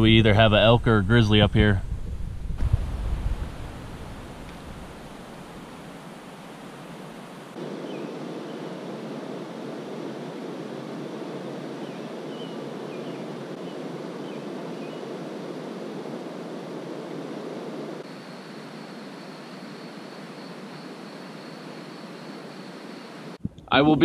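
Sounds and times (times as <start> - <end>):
faint high whine: 0.0 - 24.0
rushing outdoor ambience: 0.0 - 24.0.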